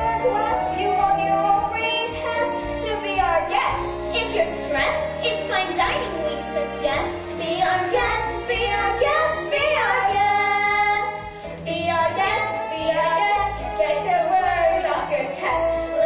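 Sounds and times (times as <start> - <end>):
recorded musical accompaniment: 0.0 - 16.0
young girls singing: 0.0 - 16.0.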